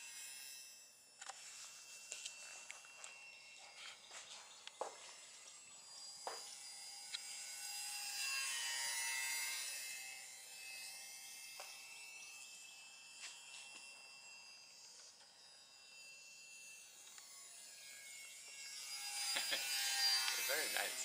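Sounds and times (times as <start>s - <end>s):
model plane motor buzzy whine: 0.0s - 21.0s.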